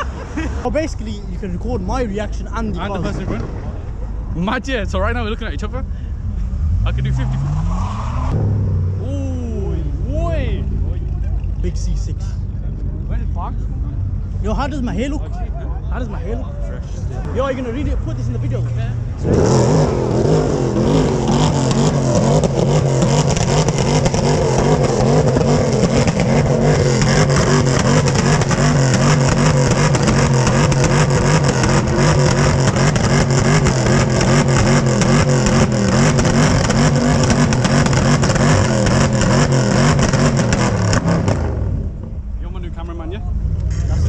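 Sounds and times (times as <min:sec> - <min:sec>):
car engine running: 0:08.3 - 0:44.0.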